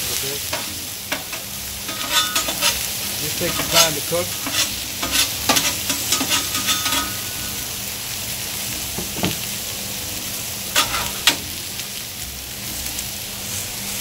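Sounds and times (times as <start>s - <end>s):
vegetables sizzling on a griddle: 0.0s - 14.0s.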